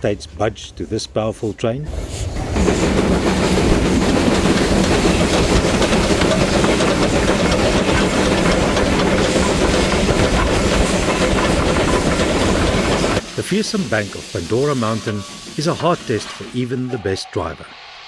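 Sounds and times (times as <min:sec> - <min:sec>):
steam locomotive exhaust chuffing: 0:00.4 - 0:17.2
steam hissing: 0:01.0 - 0:18.0.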